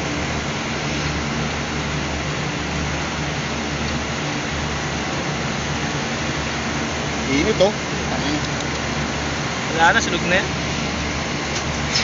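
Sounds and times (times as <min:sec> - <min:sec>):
machinery drone: 0:00.0 - 0:12.0.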